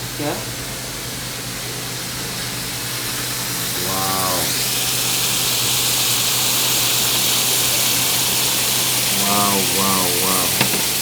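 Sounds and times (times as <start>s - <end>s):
beef sizzling on hot plate: 0.0s - 11.0s.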